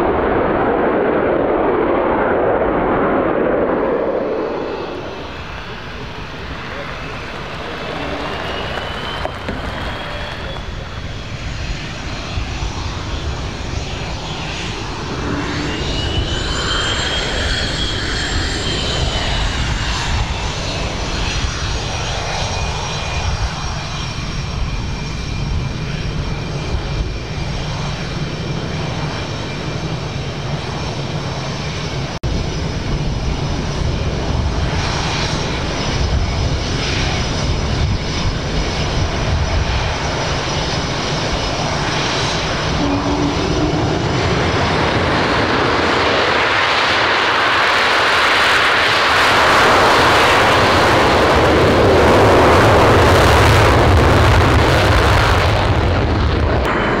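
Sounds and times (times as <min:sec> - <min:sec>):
jet engine low rumble: 0:00.0 - 0:57.0
jet engines whining: 0:00.0 - 0:57.0.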